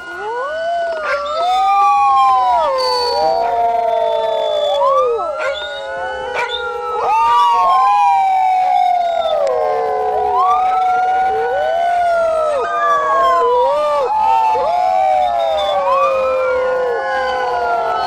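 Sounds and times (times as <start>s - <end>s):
dogs howling: 0.0s - 18.0s
emergency siren wailing: 0.0s - 18.0s.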